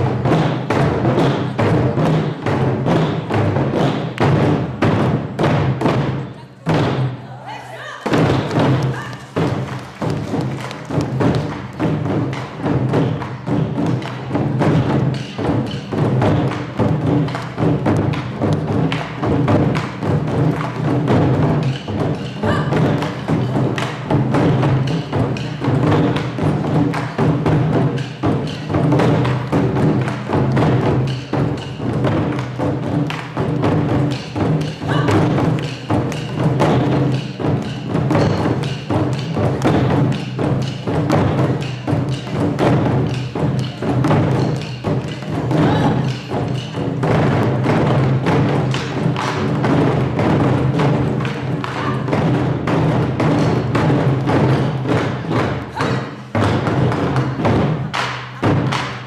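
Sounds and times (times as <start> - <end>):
rapid percussion strikes: 0.0 - 59.0.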